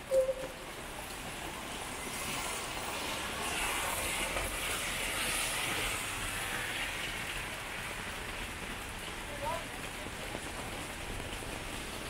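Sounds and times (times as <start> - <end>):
rain falling on a wet street: 0.3 - 12.0
tyres hissing on wet road: 0.6 - 12.0.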